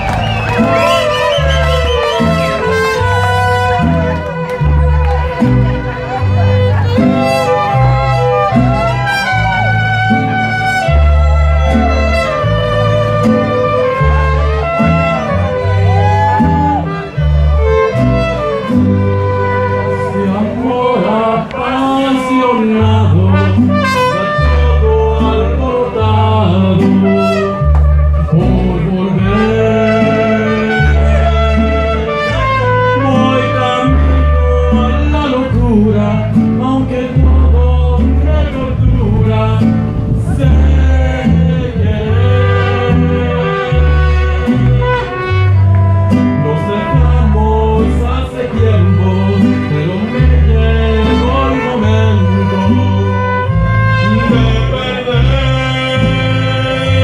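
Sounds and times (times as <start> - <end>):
deep plucked bass: 0.0 - 57.0
mariachi band playing: 0.0 - 57.0
strummed guitar: 0.0 - 57.0.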